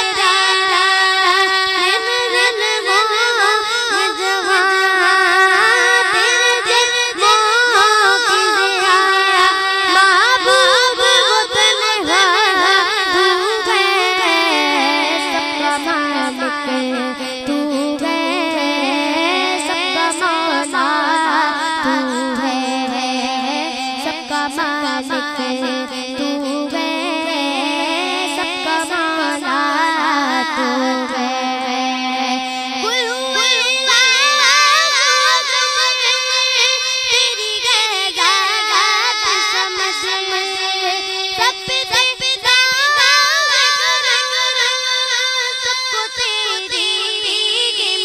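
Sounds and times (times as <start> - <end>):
girl singing devotional hymn: 0.0 - 48.0.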